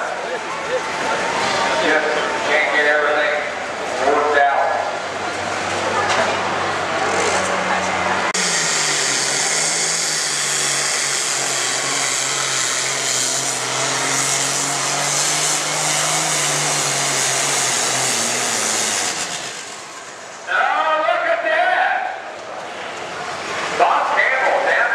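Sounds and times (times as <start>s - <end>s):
tractor diesel engine at full throttle: 0.0s - 20.6s.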